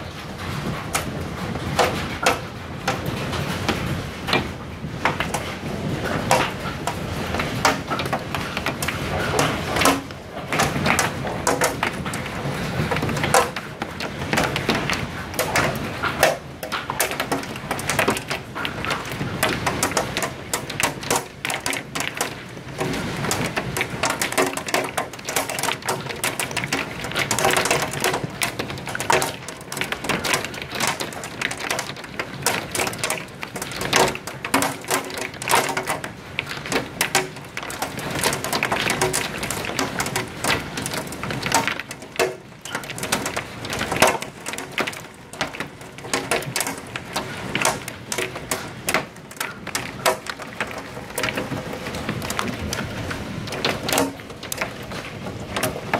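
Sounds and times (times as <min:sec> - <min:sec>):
hail clattering on hard surfaces: 0:00.0 - 0:55.9
heavy rain: 0:00.0 - 0:55.9.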